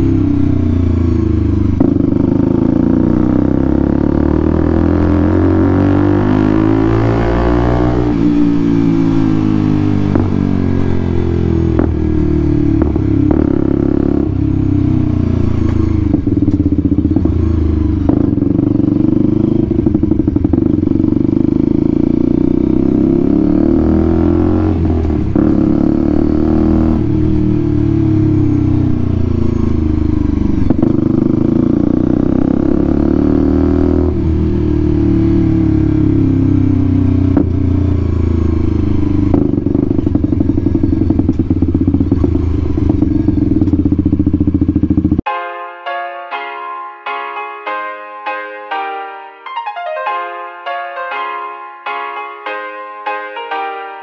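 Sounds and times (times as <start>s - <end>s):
motorcycle engine revving: 0.0s - 45.3s.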